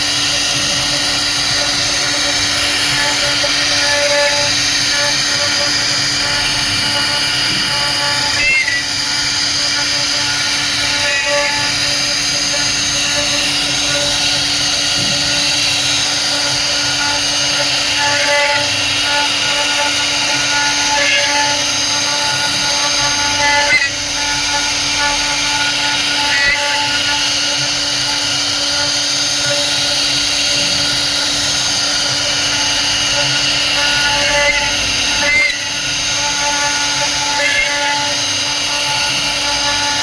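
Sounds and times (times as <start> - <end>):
router spindle whine cutting wood: 0.0 - 40.0.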